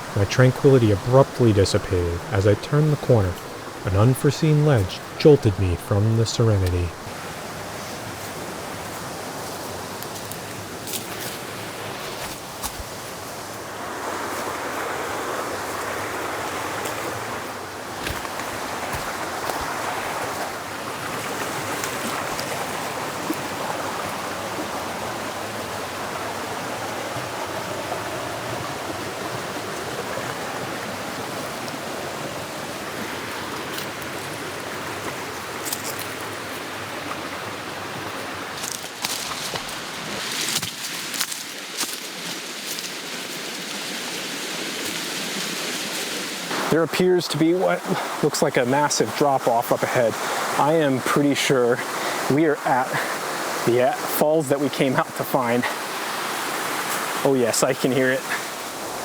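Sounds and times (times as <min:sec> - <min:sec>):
creek water rushing over rocks: 0:00.0 - 0:59.0.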